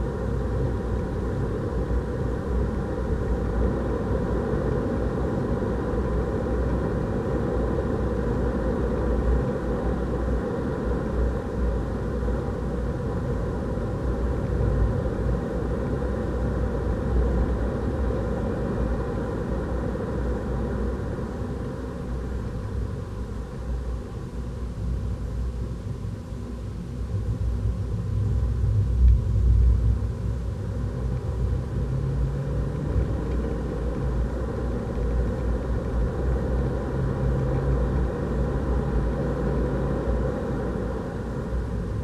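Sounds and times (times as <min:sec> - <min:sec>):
road and tyre rumble: 0:00.0 - 0:42.0.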